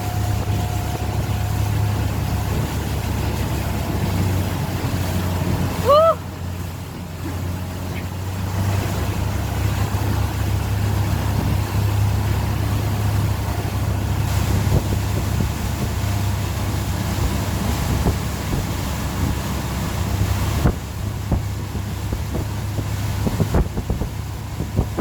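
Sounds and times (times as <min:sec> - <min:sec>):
boat engine drone: 0:00.0 - 0:25.0
rushing wind and water: 0:00.0 - 0:25.0.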